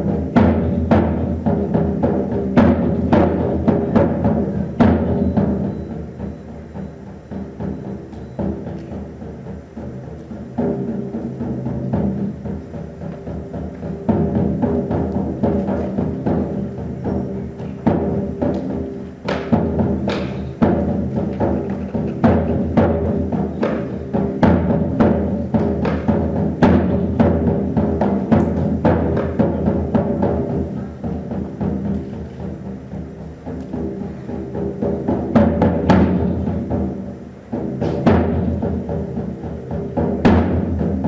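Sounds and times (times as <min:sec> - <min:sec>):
drums struck: 0:00.0 - 0:41.0.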